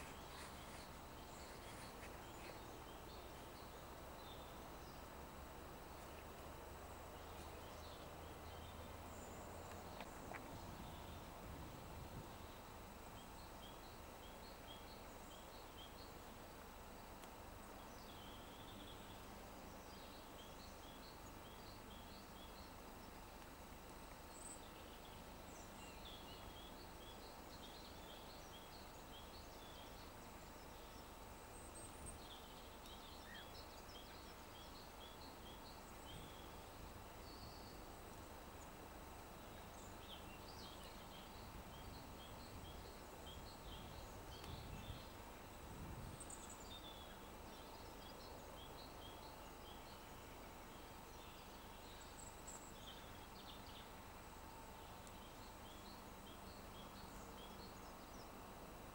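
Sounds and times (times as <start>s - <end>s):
faint background hiss: 0.0s - 58.9s
small birds chirping: 0.0s - 58.9s.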